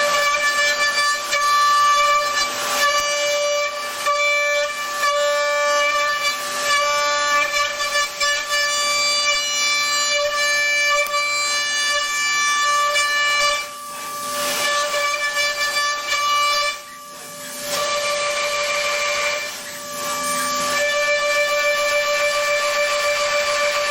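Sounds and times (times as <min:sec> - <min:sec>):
machine cutting with high whine: 0:00.0 - 0:23.9.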